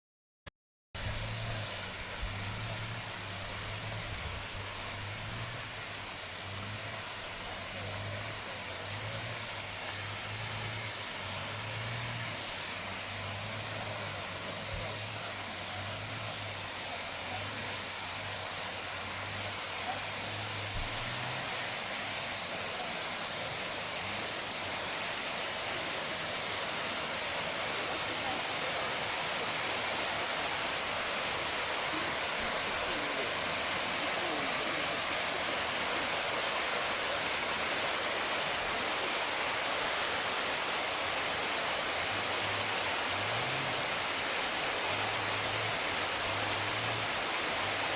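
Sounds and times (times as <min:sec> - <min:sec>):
waterfall rushing: 0:01.0 - 0:47.9.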